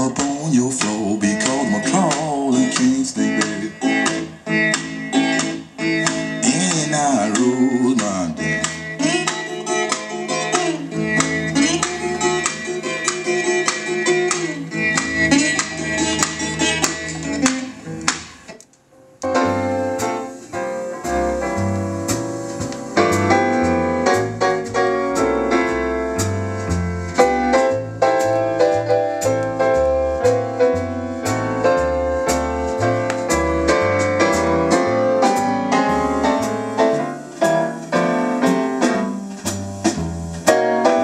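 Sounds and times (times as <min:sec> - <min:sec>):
piano-led music with bass and drums: 0:00.0 - 0:18.5, 0:19.2 - 0:41.0.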